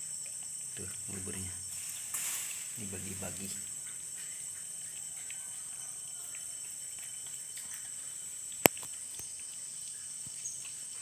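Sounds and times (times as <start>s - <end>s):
puppy eating wet clicks: 0.0s - 1.2s, 3.0s - 11.0s
insect drone: 0.0s - 11.0s.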